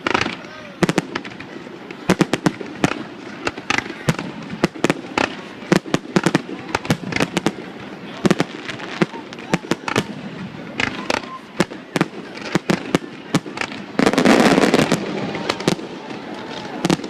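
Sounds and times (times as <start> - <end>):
fireworks crackling: 0.0 - 17.0
fireworks exploding: 0.0 - 17.0.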